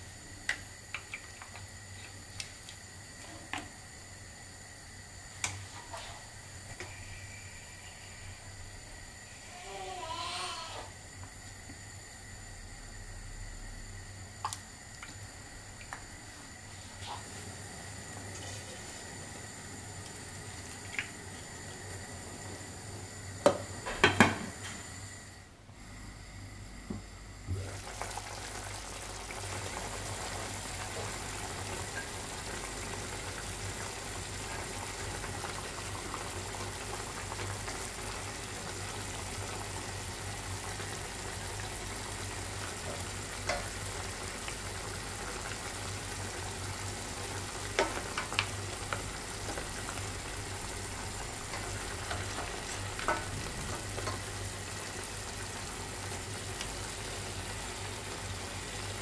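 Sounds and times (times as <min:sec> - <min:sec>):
meat bubbling and sizzling in pot: 0:00.0 - 0:09.6, 0:10.6 - 0:59.0.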